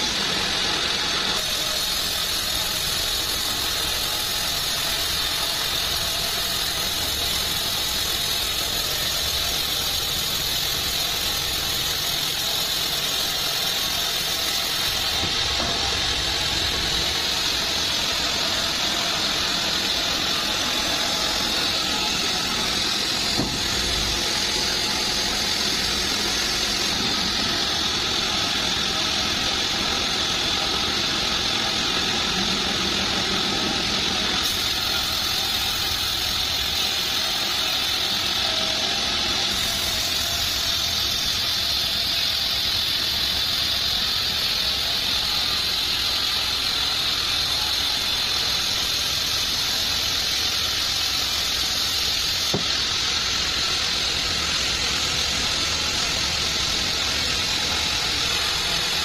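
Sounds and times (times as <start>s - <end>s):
band sawmill hissing: 0.0s - 59.0s.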